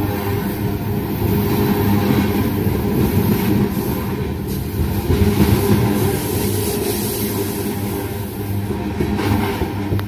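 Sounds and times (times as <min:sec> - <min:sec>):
freight train rumbling past: 0:00.0 - 0:10.0.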